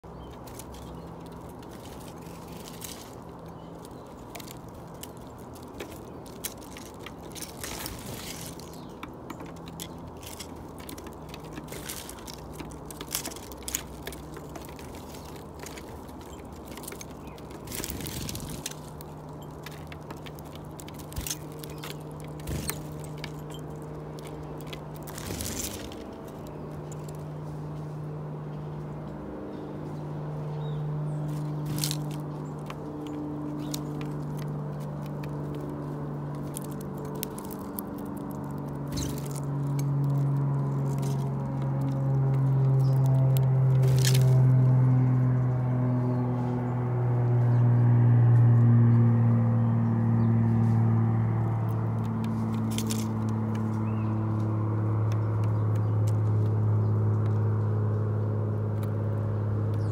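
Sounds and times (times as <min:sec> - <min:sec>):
birds pecking at seed: 0:00.0 - 0:28.1, 0:30.6 - 0:48.5, 0:49.8 - 0:59.9.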